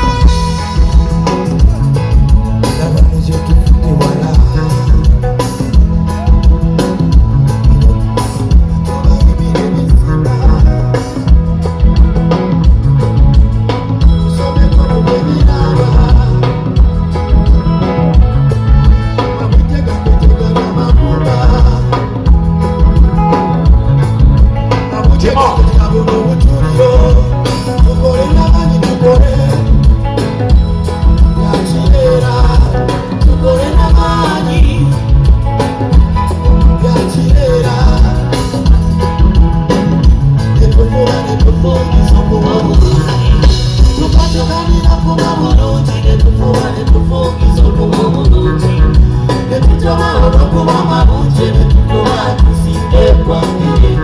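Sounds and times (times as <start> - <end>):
loud live band music: 0.0 - 54.0.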